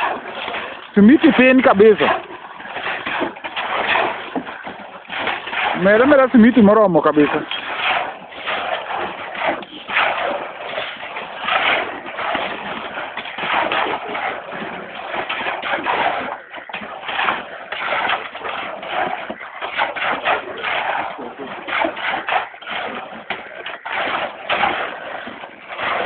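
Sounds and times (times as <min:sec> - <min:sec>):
shovels scraping cement mix: 0:00.0 - 0:26.0.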